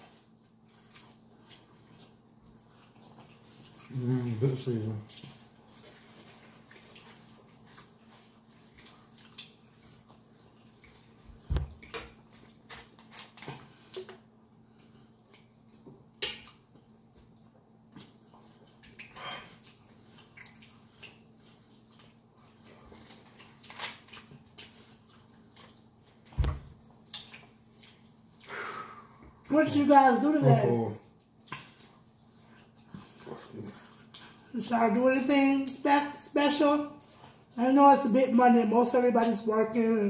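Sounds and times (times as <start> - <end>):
person chewing fried chicken: 0.0 - 29.5, 30.6 - 34.5.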